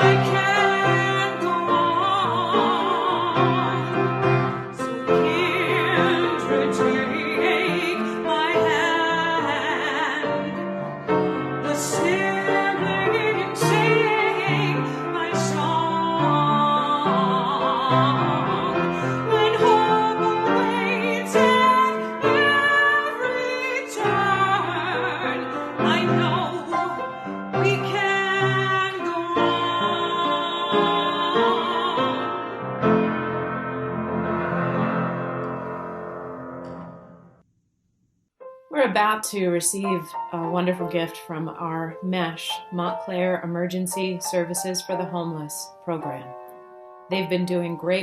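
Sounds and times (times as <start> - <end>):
person singing classical style: 0.0 - 35.8, 38.7 - 46.4
piano: 0.0 - 37.5, 38.4 - 48.0.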